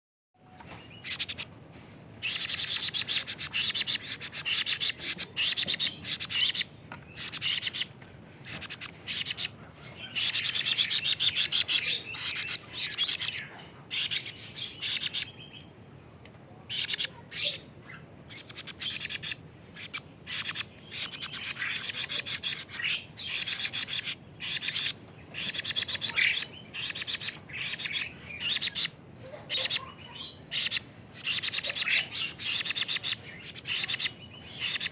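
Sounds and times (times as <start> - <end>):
bird chick rasping chirps: 0.5 - 15.7, 16.6 - 34.9.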